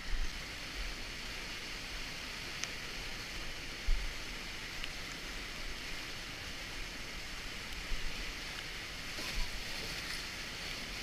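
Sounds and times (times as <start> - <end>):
whitewater river rushing: 0.0 - 11.0.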